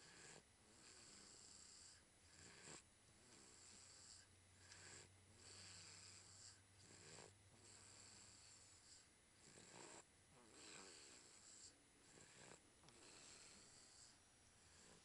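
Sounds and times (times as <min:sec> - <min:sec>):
faint snoring: 0:00.0 - 0:15.0.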